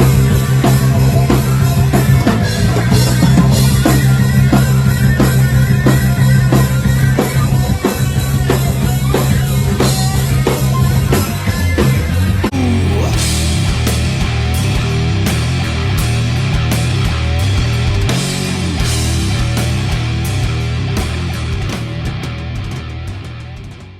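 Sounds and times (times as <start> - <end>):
drum kit beat: 0.0 - 11.4, 12.5 - 23.9
heavy electric guitar and bass riff: 0.0 - 23.9.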